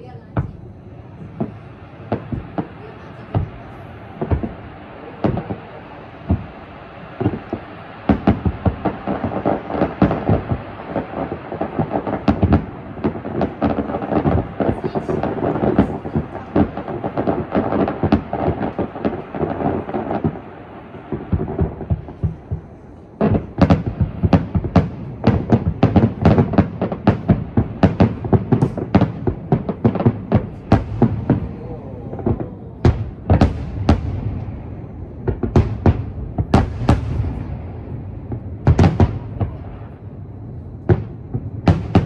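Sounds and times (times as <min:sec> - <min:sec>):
distant fireworks bangs: 0:00.0 - 0:42.0.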